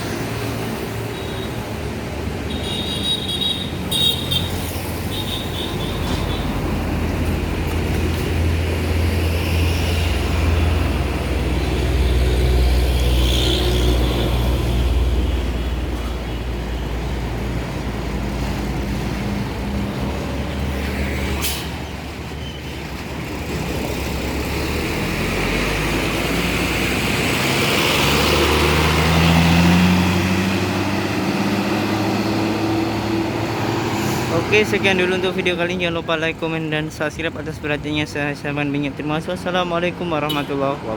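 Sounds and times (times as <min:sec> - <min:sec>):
diesel bus engines running: 0:00.0 - 0:40.9.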